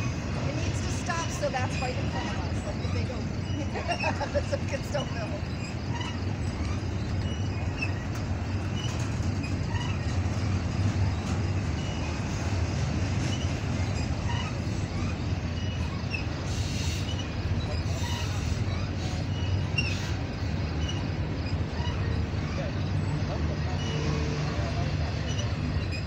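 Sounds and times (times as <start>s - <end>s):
faint short squeaks: 0.0s - 26.0s
steel wheels rumbling on rails: 0.0s - 26.0s.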